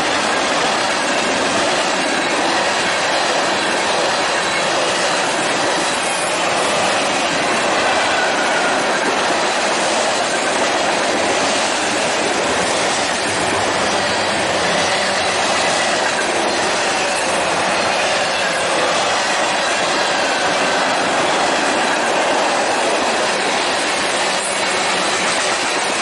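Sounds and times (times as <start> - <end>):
steel wheels rolling on rail: 0.0 - 26.0.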